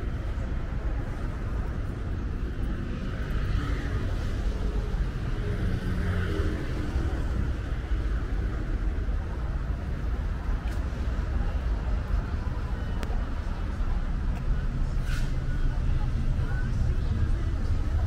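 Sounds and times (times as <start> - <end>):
low traffic rumble: 0.0 - 18.0.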